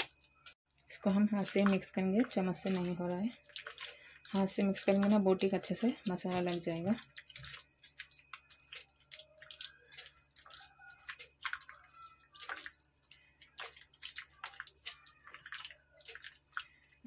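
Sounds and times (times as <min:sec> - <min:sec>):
wet squelches of kneading: 0:00.0 - 0:17.0.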